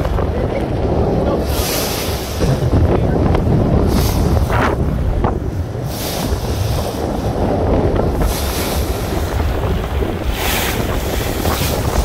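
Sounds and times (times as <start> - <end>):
steady low rumble: 0.0 - 12.0
water splashing along hull: 0.0 - 12.0
wind buffeting microphone: 0.0 - 12.0.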